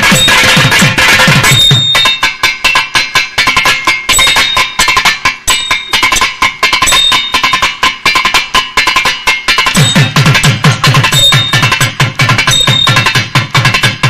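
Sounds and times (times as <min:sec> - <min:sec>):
fast drum strokes: 0:00.0 - 0:14.0.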